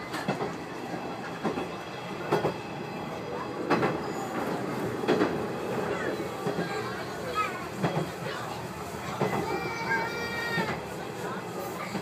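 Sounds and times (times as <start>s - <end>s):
diesel railcar rumble: 0.0s - 12.0s.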